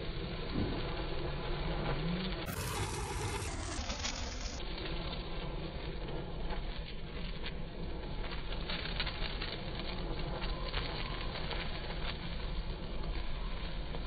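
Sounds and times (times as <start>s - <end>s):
firework fountain hissing and crackling: 0.0s - 14.0s.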